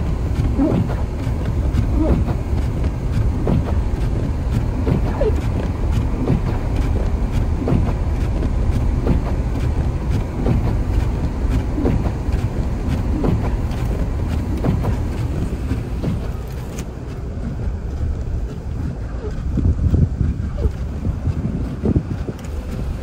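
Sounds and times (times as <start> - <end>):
low rumble of tyres and engine: 0.0 - 23.0
windshield wipers swishing: 0.0 - 23.0.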